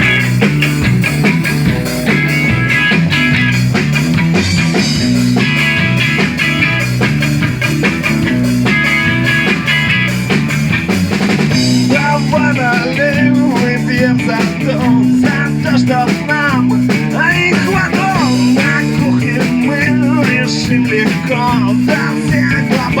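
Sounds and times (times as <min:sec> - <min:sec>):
rock band instrumental: 0:00.0 - 0:23.0.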